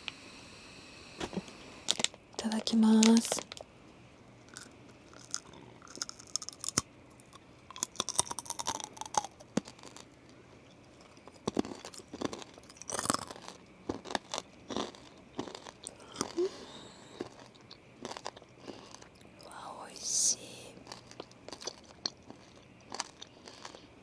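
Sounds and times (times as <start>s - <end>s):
person crunching peanuts: 1.2s - 2.1s, 4.4s - 19.7s, 20.5s - 24.0s.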